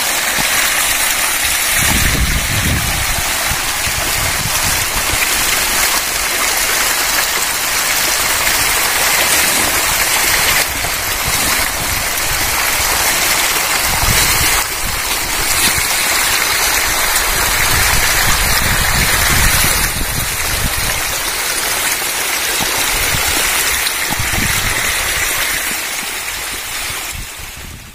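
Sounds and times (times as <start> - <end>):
fish splashing water surface: 0.0 - 27.4.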